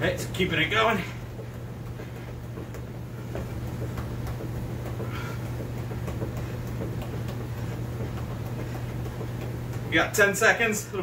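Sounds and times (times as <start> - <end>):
steady low hum: 0.0 - 11.0
ball tapped between feet: 0.3 - 10.7.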